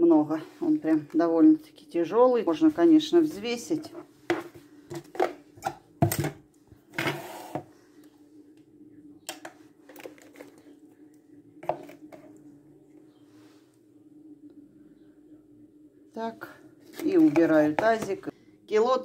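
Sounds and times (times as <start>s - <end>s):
steady low hum: 0.3s - 18.8s.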